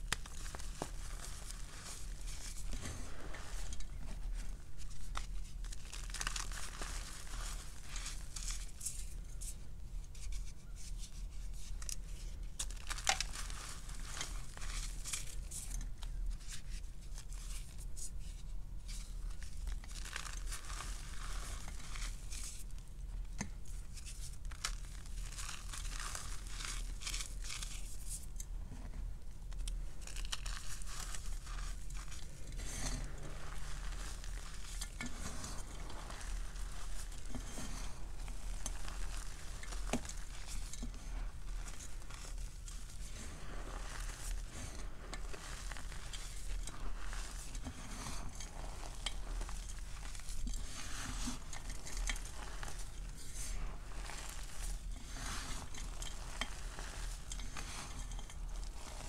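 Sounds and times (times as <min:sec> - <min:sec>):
hands crunching powder: 0:00.0 - 0:09.6, 0:11.5 - 0:18.1, 0:18.9 - 0:22.8, 0:23.7 - 0:28.4, 0:29.5 - 0:59.0.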